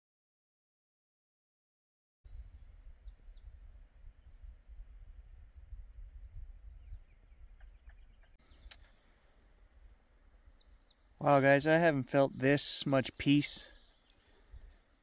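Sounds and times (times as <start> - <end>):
small birds chirping: 2.3 - 15.0.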